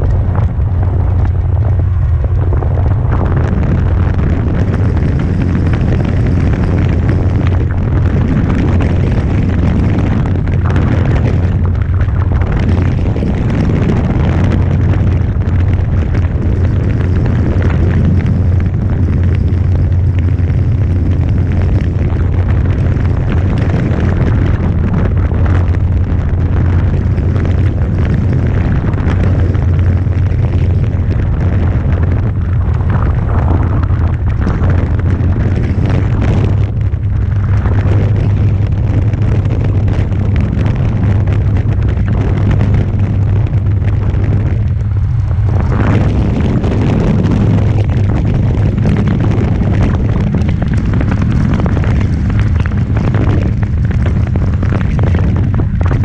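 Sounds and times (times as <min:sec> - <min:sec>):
loud rough rumble: 0:00.0 - 0:56.0.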